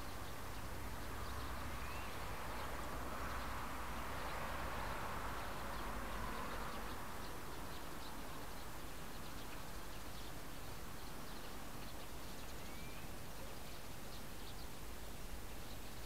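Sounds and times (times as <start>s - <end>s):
distant birds chirping: 0.0s - 16.0s
outdoor background hiss: 0.0s - 16.0s.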